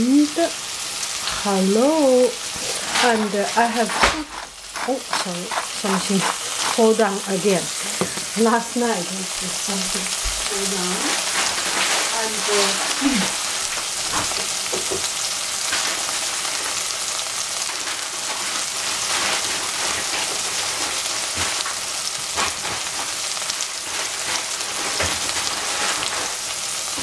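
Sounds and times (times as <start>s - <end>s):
mushrooms frying in oil: 0.0s - 27.0s.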